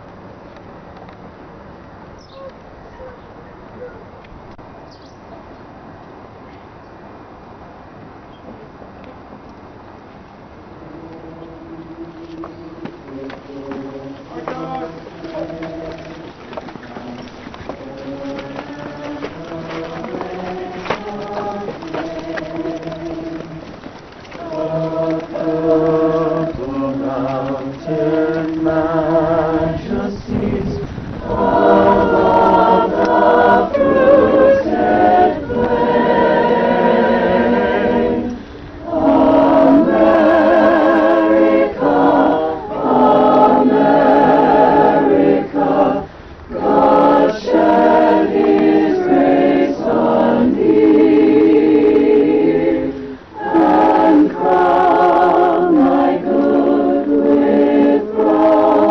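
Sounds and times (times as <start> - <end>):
choir singing a cappella: 10.7 - 58.9.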